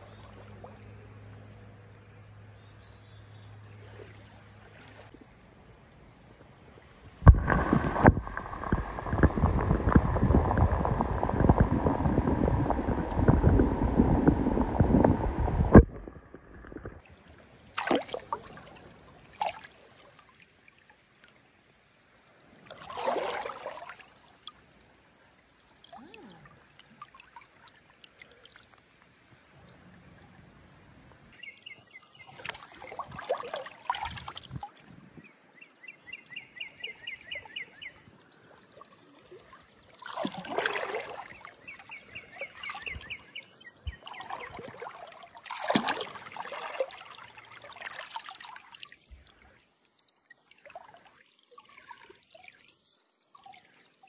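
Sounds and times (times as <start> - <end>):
water trickling: 0.0 - 54.0
water rushing and splashing: 3.5 - 5.7, 6.4 - 54.0.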